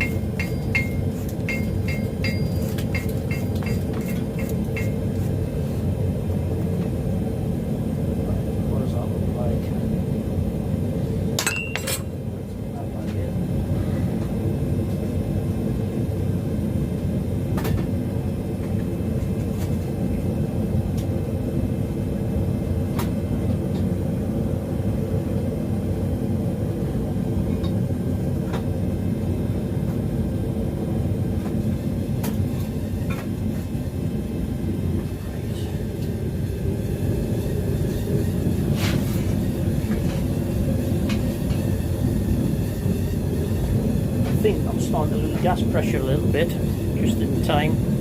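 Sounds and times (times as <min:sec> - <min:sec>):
gas burner rushing: 0:00.0 - 0:48.0.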